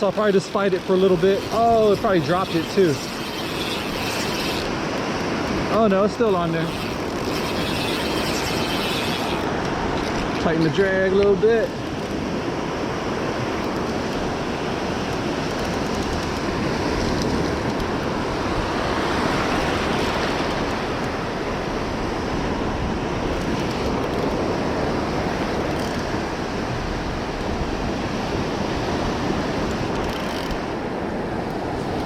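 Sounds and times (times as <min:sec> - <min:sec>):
surf washing onto beach: 0:00.0 - 0:32.0
wind on microphone: 0:00.6 - 0:32.0.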